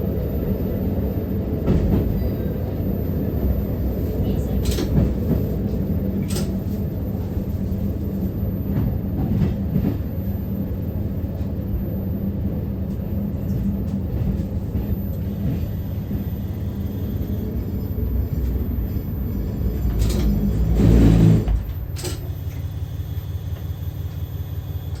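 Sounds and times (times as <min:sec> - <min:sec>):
diesel railcar rumble: 0:00.0 - 0:25.0.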